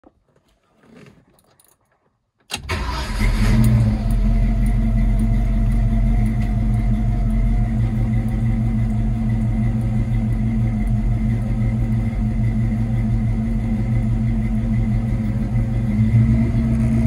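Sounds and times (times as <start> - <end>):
car engine starting and idling: 2.5 - 17.0.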